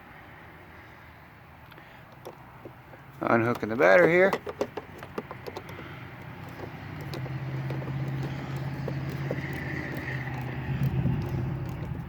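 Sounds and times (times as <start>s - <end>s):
low engine hum: 1.7s - 12.0s.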